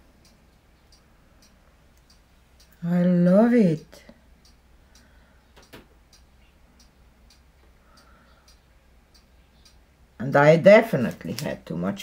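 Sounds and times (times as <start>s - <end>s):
faint regular ticking: 0.0s - 12.0s
low steady hum: 0.0s - 12.0s.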